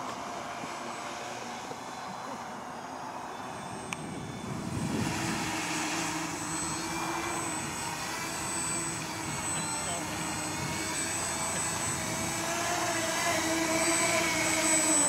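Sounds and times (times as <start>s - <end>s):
drone motors humming: 0.0s - 15.0s.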